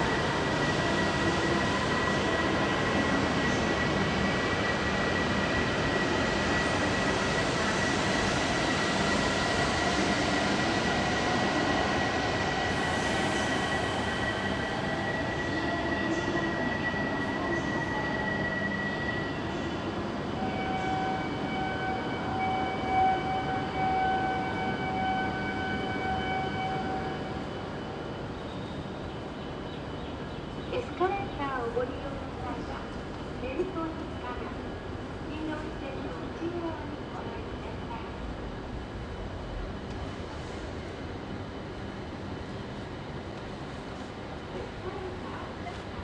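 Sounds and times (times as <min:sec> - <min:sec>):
train rumble and hiss: 0:00.0 - 0:46.0.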